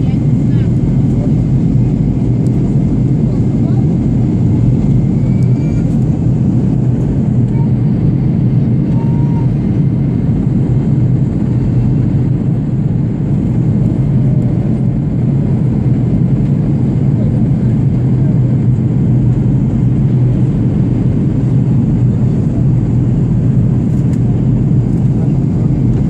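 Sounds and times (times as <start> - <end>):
aeroplane cabin engine rumble: 0.0 - 26.0.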